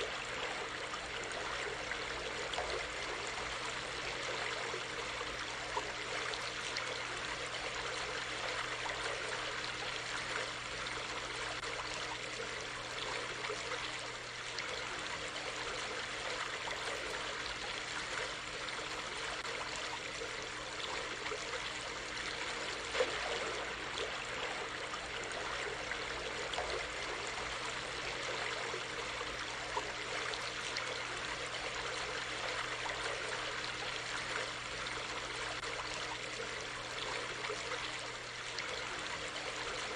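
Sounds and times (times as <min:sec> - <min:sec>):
brook water trickling: 0:00.0 - 0:39.9.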